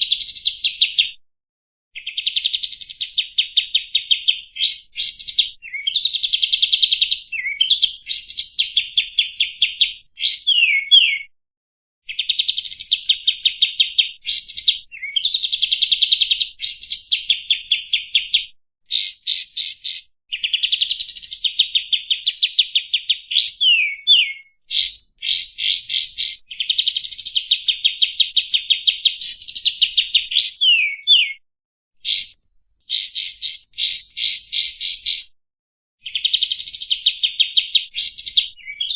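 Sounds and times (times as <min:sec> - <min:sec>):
songbird trilling and whistling: 0:00.0 - 0:01.2, 0:02.0 - 0:11.3, 0:12.0 - 0:31.4, 0:32.0 - 0:35.4, 0:36.0 - 0:38.9.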